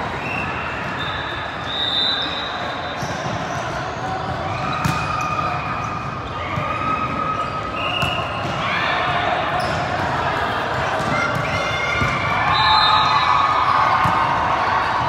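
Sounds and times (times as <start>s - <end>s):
hubbub of voices in a hall: 0.0s - 15.0s.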